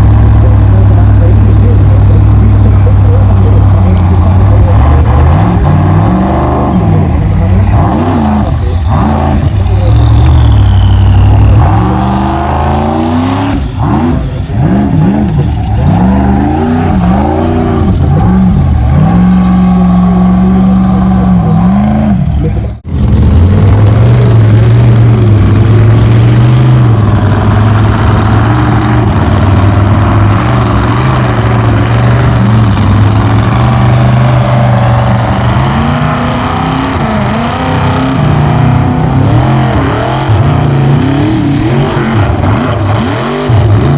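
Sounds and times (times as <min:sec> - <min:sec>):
engine held at high revs: 0:00.0 - 0:43.9
race truck engine revving: 0:00.0 - 0:43.9.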